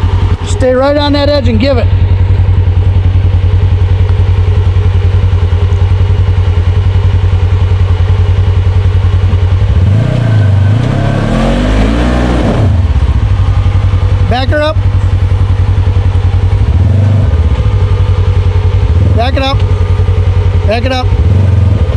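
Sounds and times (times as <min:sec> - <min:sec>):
engine idling loudly: 0:00.0 - 0:21.9
engine revving: 0:00.0 - 0:21.9.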